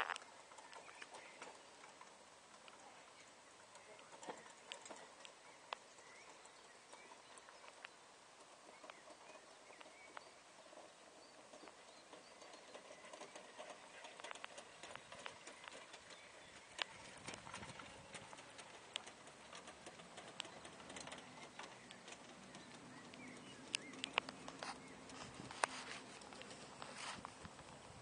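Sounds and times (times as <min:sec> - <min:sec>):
faint hoofbeats on grass: 0:00.0 - 0:28.0
harness and carriage clicking: 0:00.0 - 0:28.0.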